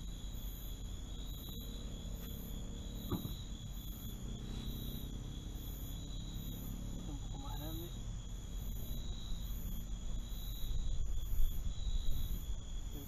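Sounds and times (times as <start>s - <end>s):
crickets chirping: 0.0s - 13.0s
high-pitched insect drone: 0.0s - 13.0s.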